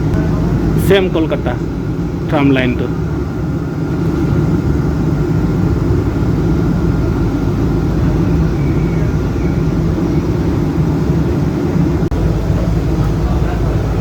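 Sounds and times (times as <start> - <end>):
tram running rumble: 0.0 - 14.0.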